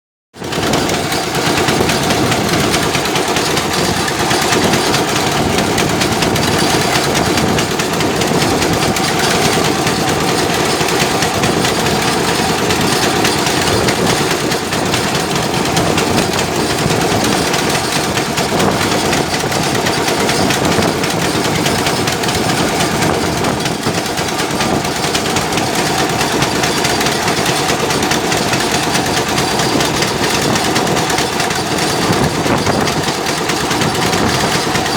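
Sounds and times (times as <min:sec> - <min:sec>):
heavy machinery engine running: 0:00.4 - 0:34.9.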